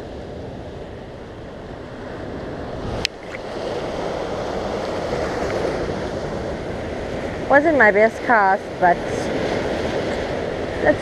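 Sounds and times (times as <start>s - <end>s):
surf washing over rocks: 0.0s - 11.0s
wind buffeting microphone: 0.0s - 11.0s.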